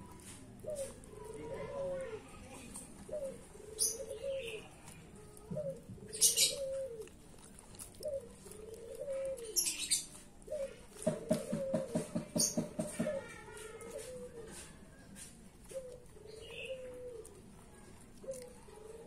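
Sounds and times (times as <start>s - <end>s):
scratchy rustles: 0.0s - 12.2s, 13.2s - 19.0s
dove cooing: 0.0s - 19.0s.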